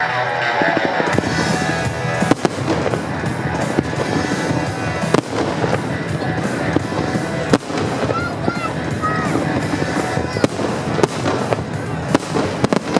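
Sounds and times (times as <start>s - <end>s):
fireworks crackling: 0.0s - 12.9s
music: 0.0s - 12.9s
firework bangs: 0.5s - 12.9s.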